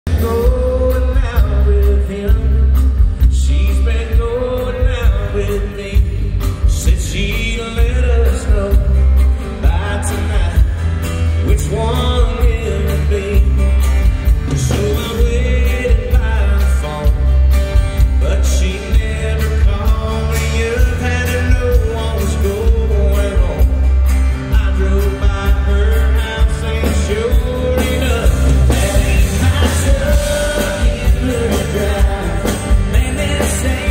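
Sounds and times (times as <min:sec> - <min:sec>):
live country band: 0:00.0 - 0:33.9
man singing: 0:00.1 - 0:33.9.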